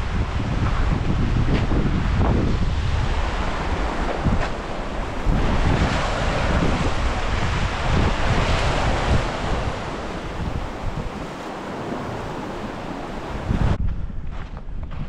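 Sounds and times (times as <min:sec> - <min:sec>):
waves splashing against rocky shore: 0:00.0 - 0:13.8
wind buffeting microphone: 0:00.0 - 0:15.0.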